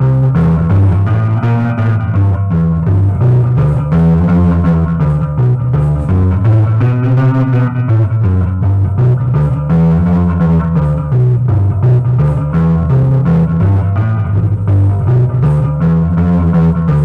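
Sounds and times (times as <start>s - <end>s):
blues guitar playing: 0.0s - 17.0s.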